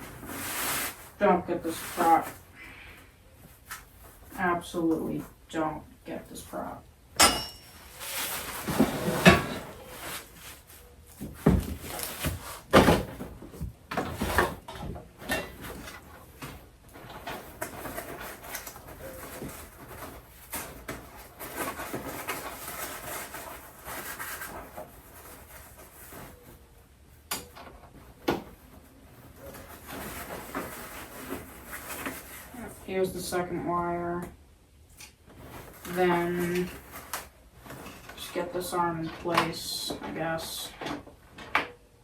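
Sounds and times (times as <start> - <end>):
rustling and scraping: 0.0 - 42.0.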